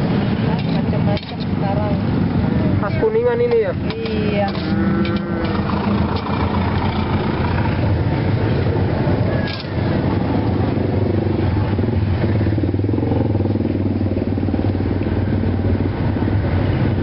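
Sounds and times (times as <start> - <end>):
motorcycle engine running: 0.0 - 17.0
street traffic noise: 0.0 - 17.0.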